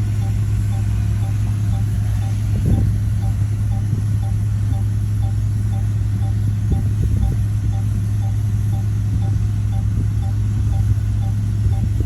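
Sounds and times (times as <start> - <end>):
diesel engine humming: 0.0 - 12.0
faint regular ticking: 0.0 - 12.0.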